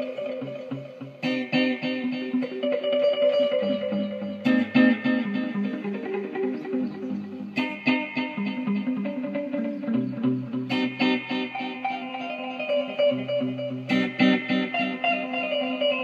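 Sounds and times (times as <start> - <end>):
plucked guitar music with bass: 0.0 - 16.0.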